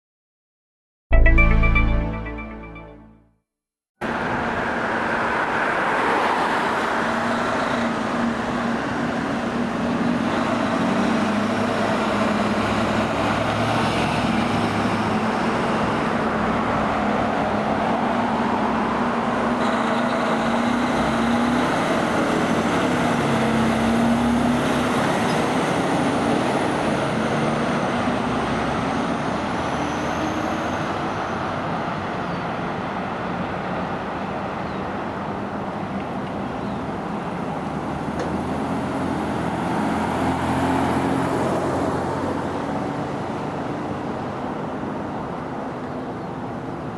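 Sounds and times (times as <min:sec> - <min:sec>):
road traffic: 0:04.0 - 0:46.9.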